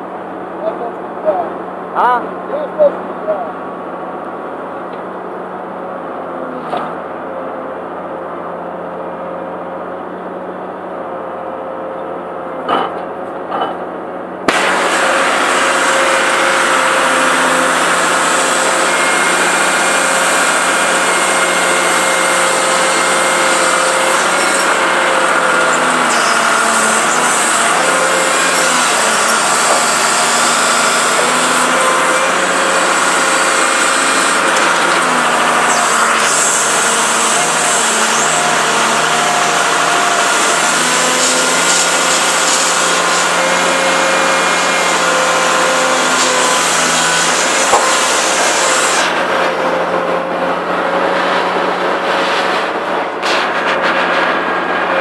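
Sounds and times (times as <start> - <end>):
log loader engine running: 0.0 - 55.0.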